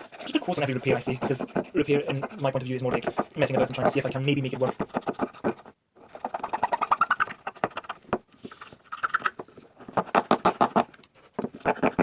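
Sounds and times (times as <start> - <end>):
scratchy clicking and grinding: 0.0 - 12.0.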